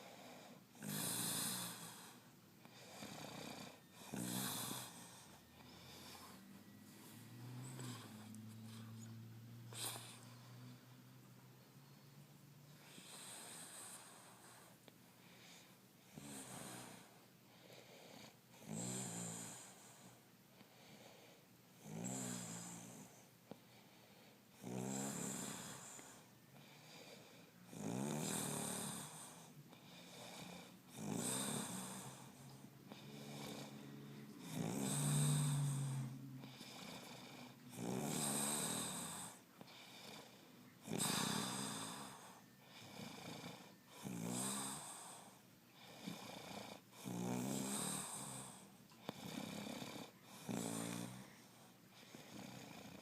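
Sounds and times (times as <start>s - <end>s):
man snoring: 0.0s - 11.0s, 12.8s - 14.6s, 16.1s - 17.2s, 18.2s - 20.2s, 21.8s - 23.2s, 24.6s - 53.0s.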